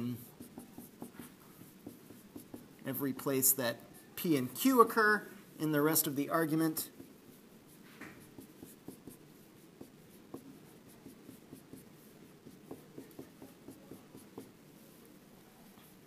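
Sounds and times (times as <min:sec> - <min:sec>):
marker writing on whiteboard: 0:00.0 - 0:05.0, 0:05.6 - 0:16.0.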